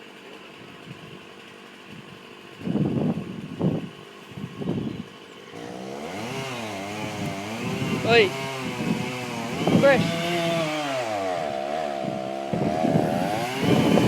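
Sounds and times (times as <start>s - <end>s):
chainsaw engine idling: 0.0s - 14.0s.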